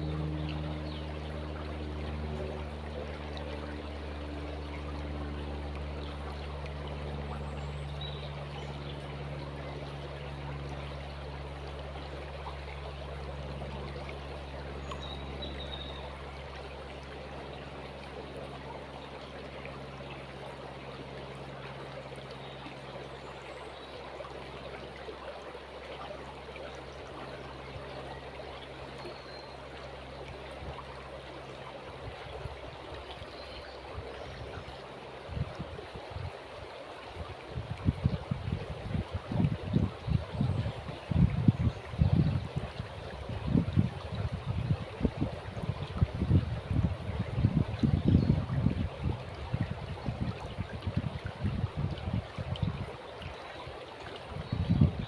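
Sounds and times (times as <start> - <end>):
low steady hum: 0.0 - 55.0
river flowing: 0.0 - 55.0.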